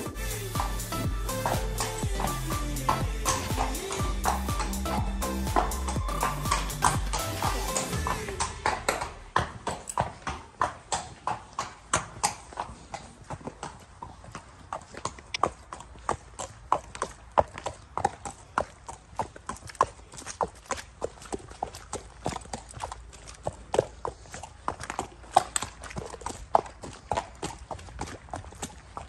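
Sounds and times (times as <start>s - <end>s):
hooves clip-clopping on wet concrete: 0.0s - 29.0s.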